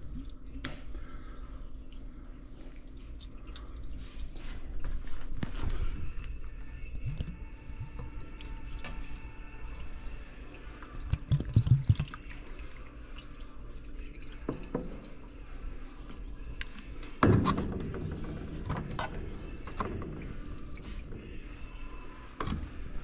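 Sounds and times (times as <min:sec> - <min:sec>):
water dripping: 0:00.0 - 0:05.2, 0:07.0 - 0:23.0.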